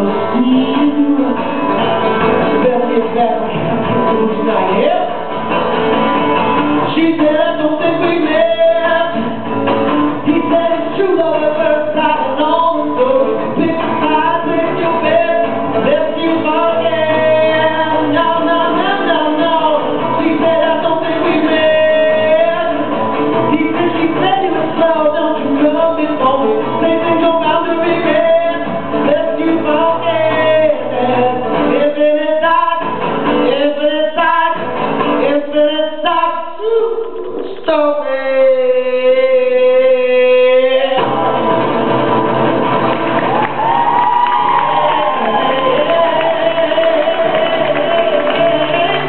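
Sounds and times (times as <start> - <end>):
man singing: 0.0 - 5.4, 6.8 - 42.2, 44.6 - 49.0
acoustic guitar strumming: 0.0 - 49.0.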